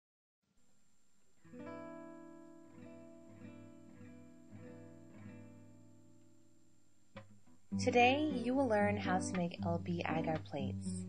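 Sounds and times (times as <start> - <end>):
acoustic guitar strumming chords: 1.5 - 6.5, 7.2 - 11.0.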